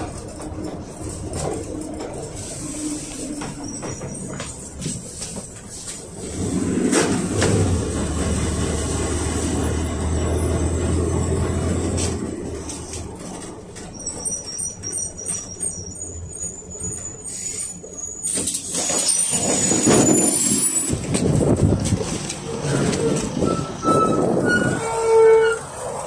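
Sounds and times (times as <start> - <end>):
bus engine humming: 0.0 - 26.0.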